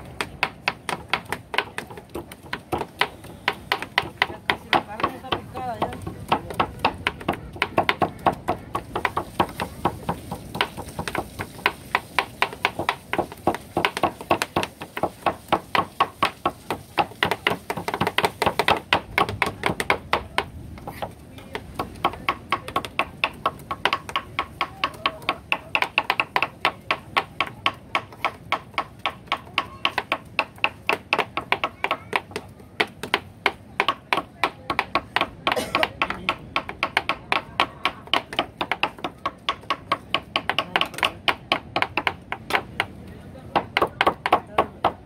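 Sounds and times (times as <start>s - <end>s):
knives chopping on plastic boards: 0.2s - 21.1s, 21.8s - 42.9s.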